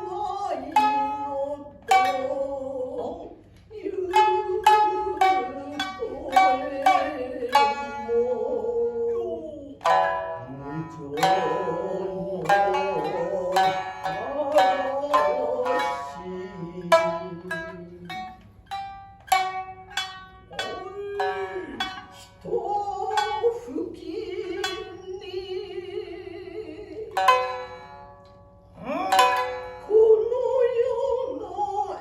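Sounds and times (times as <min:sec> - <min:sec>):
higher second shamisen: 0:00.0 - 0:32.0
shamisen plucked notes: 0:00.0 - 0:32.0.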